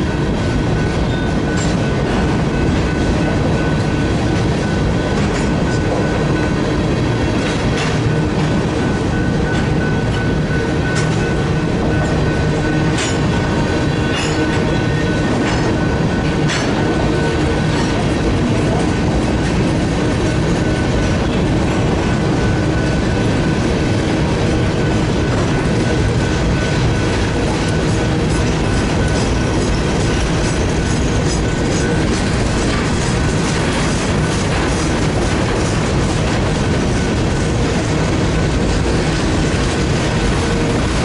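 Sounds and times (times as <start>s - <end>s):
steel wheels rumbling on rail: 0.0s - 41.0s.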